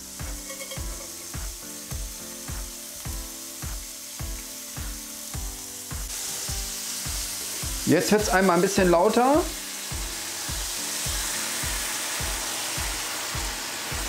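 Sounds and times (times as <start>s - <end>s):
background music with steady beat: 0.0s - 14.0s
vegetables sizzling on grill plate: 0.0s - 14.0s.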